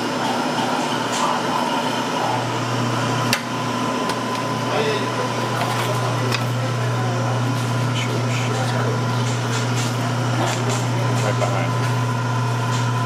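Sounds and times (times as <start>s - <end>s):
kitchen machinery hum: 0.0s - 13.0s.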